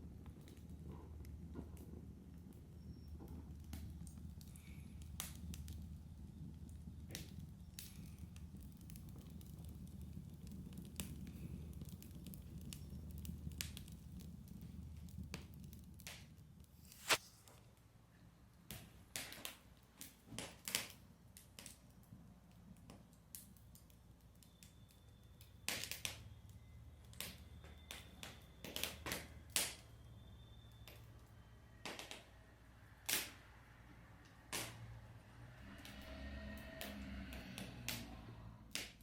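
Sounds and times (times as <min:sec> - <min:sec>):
wood fire crackling and popping: 0:00.0 - 0:17.8, 0:18.6 - 0:32.4, 0:33.0 - 0:33.4, 0:34.3 - 0:39.0.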